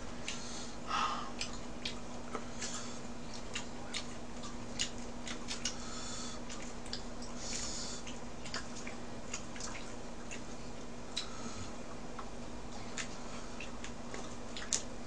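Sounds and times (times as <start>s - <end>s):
low steady hum: 0.0s - 15.0s
soft eating sounds: 0.0s - 15.0s.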